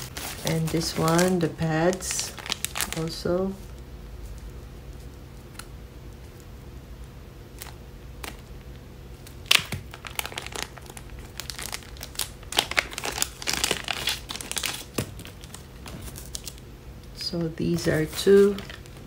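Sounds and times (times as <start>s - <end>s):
plastic packaging crinkling: 0.0s - 5.6s, 7.5s - 19.0s.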